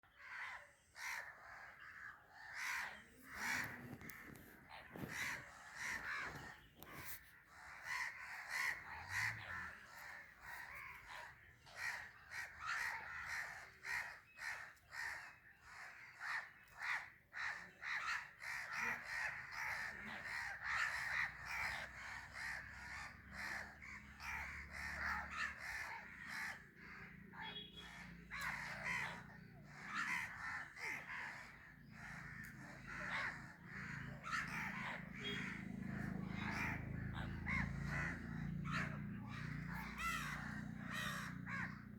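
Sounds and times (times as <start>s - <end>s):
crows cawing: 0.0s - 41.9s.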